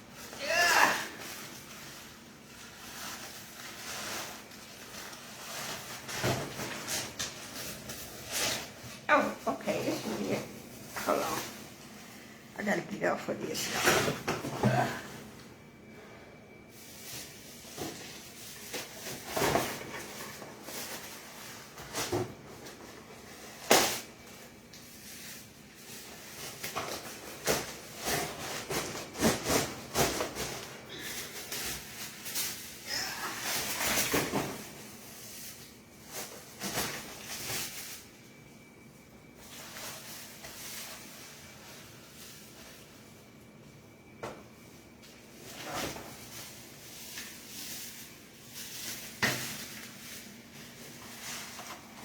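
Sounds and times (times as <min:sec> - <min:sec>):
packaging rustling and scraping: 0:00.1 - 0:12.5, 0:13.6 - 0:52.0.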